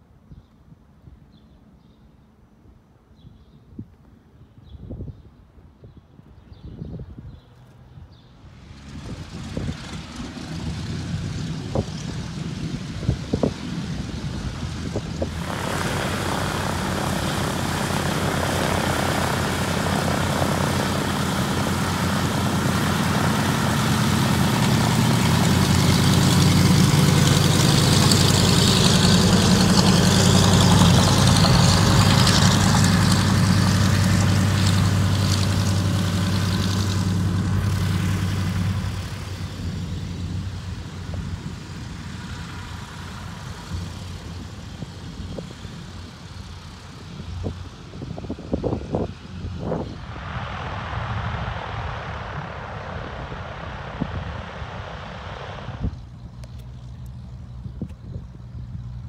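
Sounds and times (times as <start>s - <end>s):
propeller plane engines taxiing: 6.3s - 59.0s.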